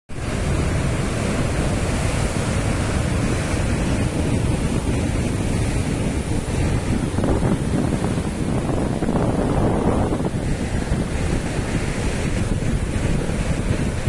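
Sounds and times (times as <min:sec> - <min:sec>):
surf breaking over rocks: 0:00.1 - 0:14.0
wind buffeting microphone: 0:00.1 - 0:14.0.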